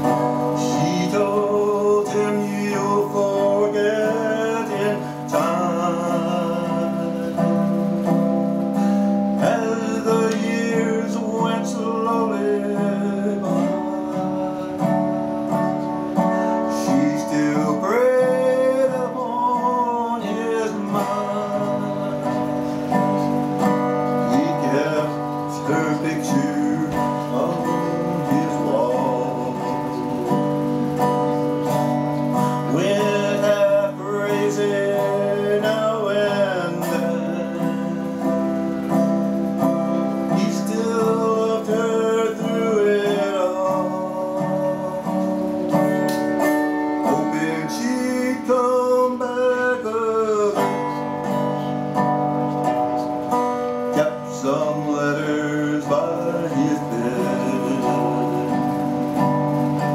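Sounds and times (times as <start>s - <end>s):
slow country ballad on guitar: 0.0s - 59.9s.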